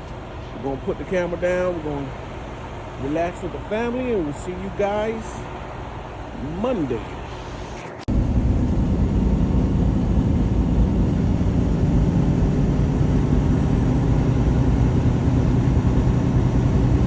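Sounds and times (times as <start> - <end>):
road noise: 0.0 - 17.0
truck engine droning: 0.0 - 17.0.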